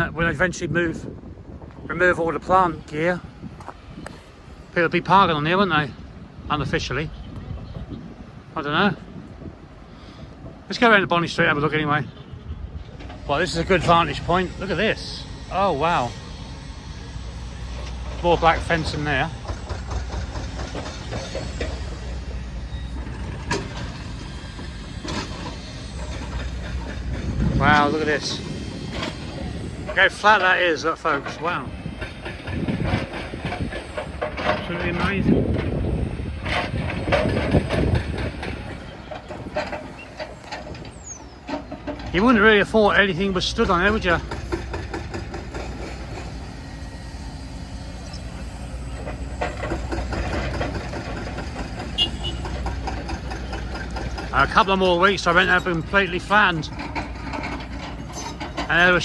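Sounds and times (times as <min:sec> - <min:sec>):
heavy vehicle engine rumble: 0:00.0 - 0:59.0.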